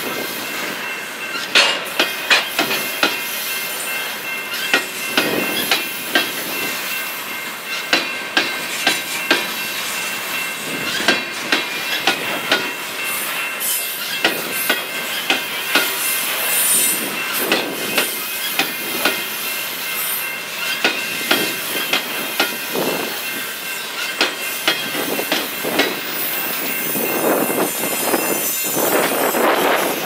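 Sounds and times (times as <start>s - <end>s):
train rolling rumble: 0.0s - 30.0s
train wheels clacking on rail joint: 0.1s - 30.0s.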